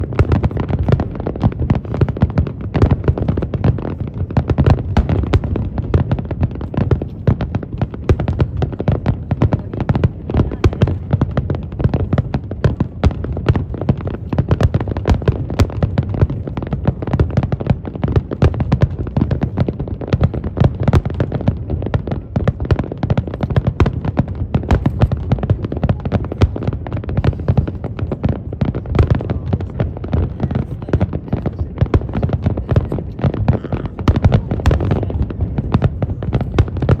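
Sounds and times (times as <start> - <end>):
fireworks popping and crackling: 0.0 - 37.0.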